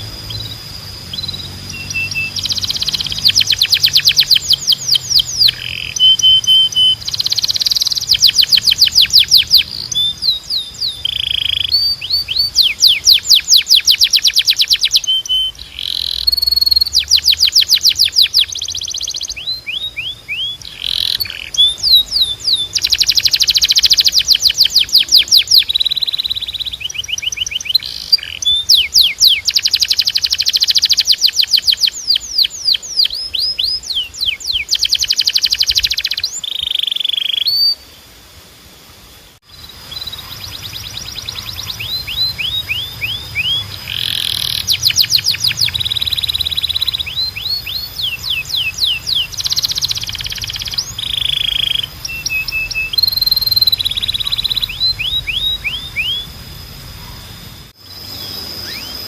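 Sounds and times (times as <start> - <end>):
canary singing: 0.0 - 38.1, 39.4 - 59.0.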